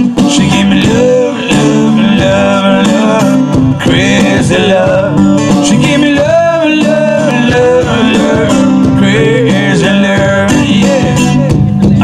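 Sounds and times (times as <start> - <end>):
amplified acoustic guitar playing: 0.0 - 12.0.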